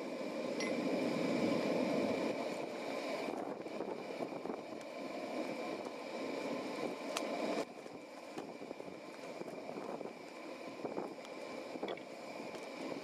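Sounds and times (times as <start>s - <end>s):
faint steady whine: 0.0s - 13.0s
forge fire rushing: 0.0s - 13.0s.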